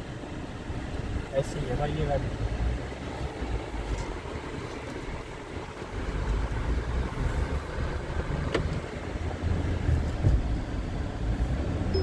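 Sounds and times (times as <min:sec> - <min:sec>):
road and engine rumble in cabin: 0:00.0 - 0:12.0.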